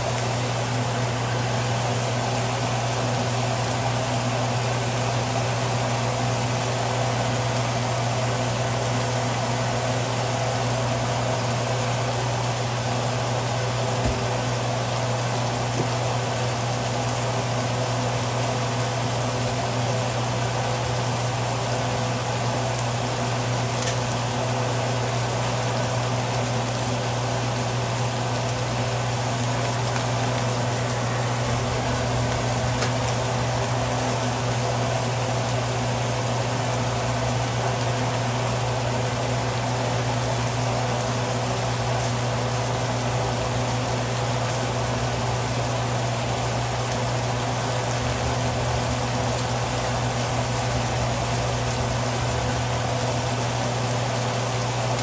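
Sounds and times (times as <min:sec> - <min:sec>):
fish frying in a skillet: 0:00.0 - 0:55.0.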